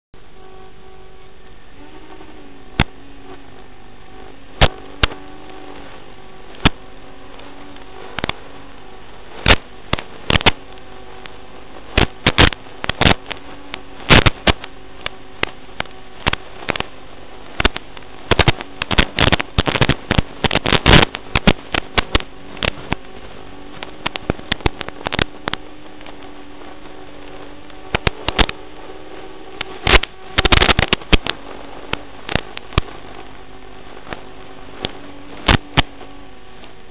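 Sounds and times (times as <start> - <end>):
radio static crackles and pops: 0.2 - 36.9
steady hum with wavering tone: 0.2 - 36.9.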